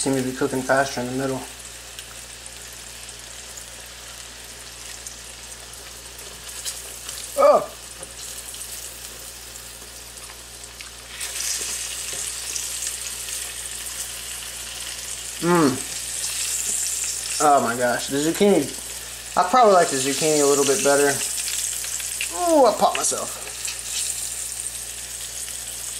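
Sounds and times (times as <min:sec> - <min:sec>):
vegetables sizzling in a pan: 0:00.0 - 0:25.9.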